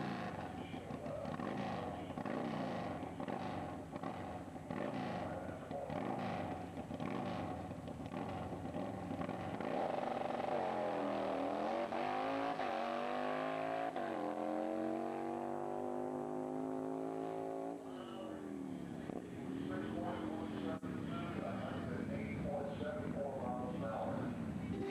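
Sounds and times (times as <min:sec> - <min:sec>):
motorcycle engine accelerating: 0:00.0 - 0:21.5.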